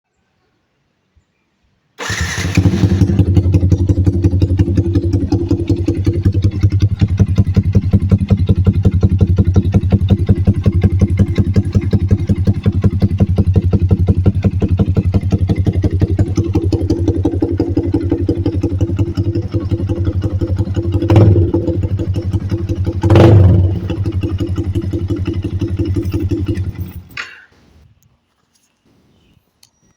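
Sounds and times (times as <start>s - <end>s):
motorcycle engine idling and revving: 2.0s - 27.2s.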